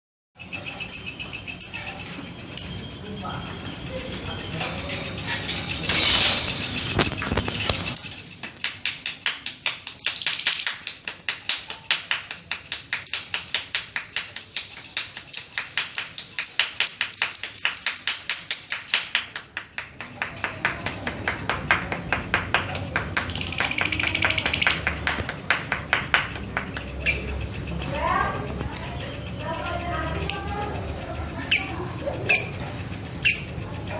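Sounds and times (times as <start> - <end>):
baby bird ticking and chirping: 0.4 - 33.9.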